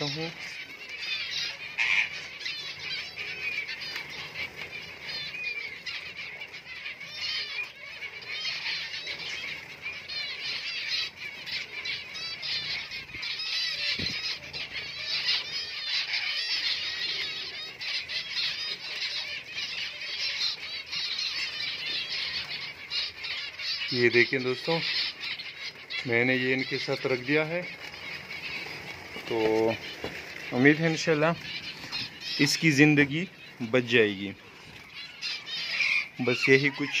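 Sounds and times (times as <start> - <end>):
finches chirping: 0.0 - 37.0.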